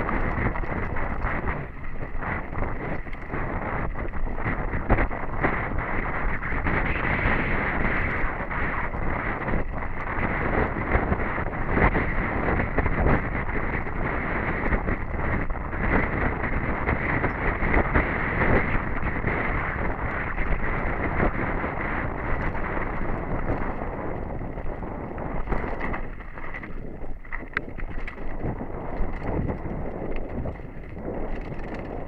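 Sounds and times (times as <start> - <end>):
bike rattling and knocking: 0.0 - 32.0
bike tyres on dirt trail: 0.0 - 32.0
wind noise on microphone: 0.0 - 32.0.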